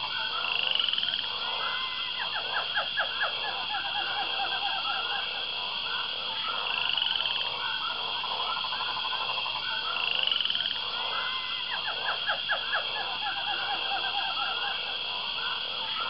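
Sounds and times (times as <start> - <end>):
frogs calling: 0.0 - 16.0
high insect drone: 0.0 - 16.0.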